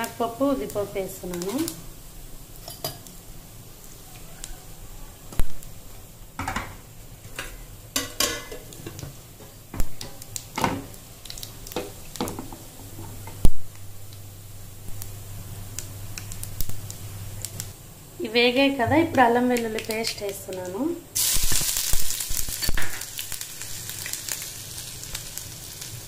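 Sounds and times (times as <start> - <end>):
seeds sizzling in hot oil: 0.0 - 26.0.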